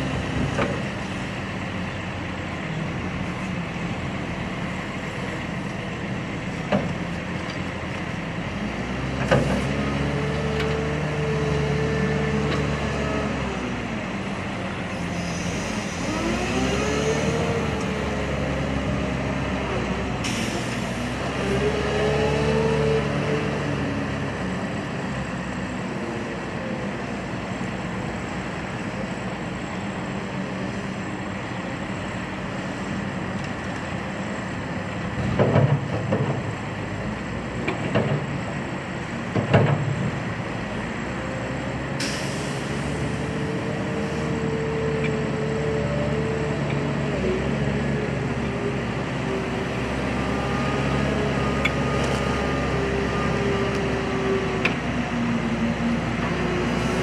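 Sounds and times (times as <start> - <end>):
wheel loader diesel engine: 0.0 - 57.0.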